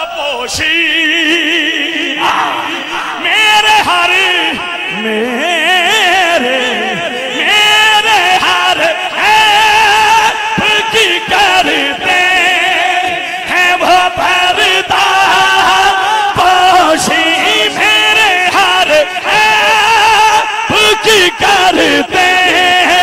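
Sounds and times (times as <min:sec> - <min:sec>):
man singing a hymn into a microphone: 0:00.0 - 0:23.0.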